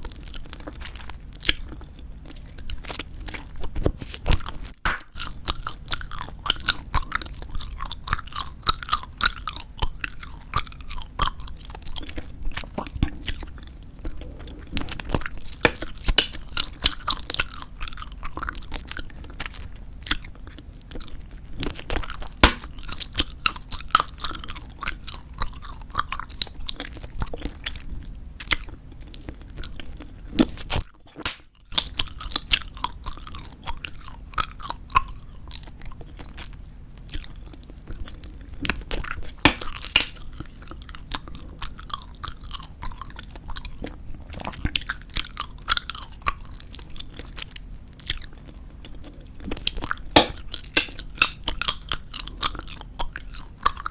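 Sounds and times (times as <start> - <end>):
chewing bubblegum: 0.0 - 53.9.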